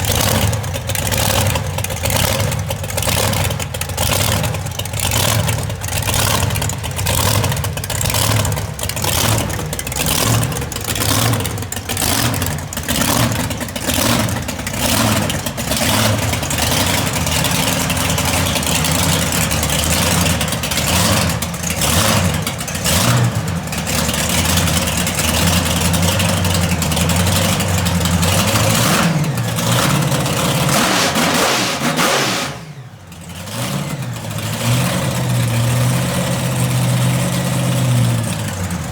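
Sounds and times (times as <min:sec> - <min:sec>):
monster truck engine revving: 0:00.0 - 0:38.9.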